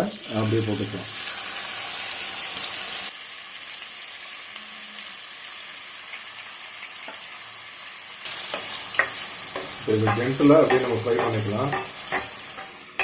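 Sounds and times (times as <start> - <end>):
chicken sizzling in butter: 0.0 - 13.0.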